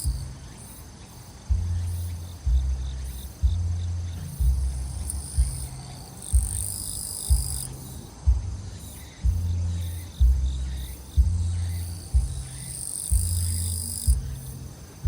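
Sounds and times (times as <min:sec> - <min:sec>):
heavy bass beat music: 0:00.0 - 0:00.6, 0:01.4 - 0:15.0
crickets trilling: 0:00.0 - 0:15.0.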